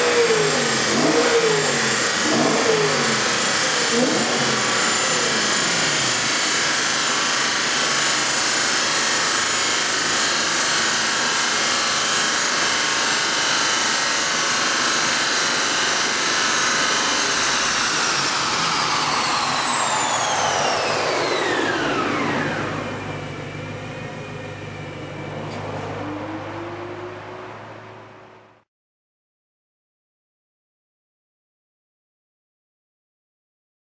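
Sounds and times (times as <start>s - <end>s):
car engine and exhaust: 0.0s - 28.6s
dyno rollers whining: 0.0s - 28.6s.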